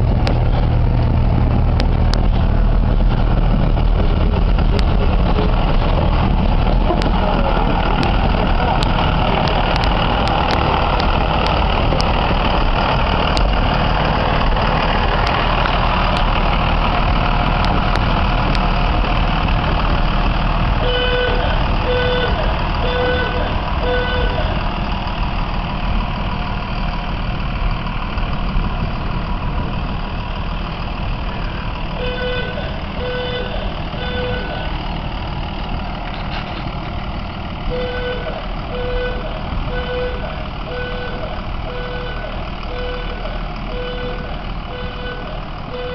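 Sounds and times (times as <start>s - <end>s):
railcar engine rumble: 0.0s - 45.9s.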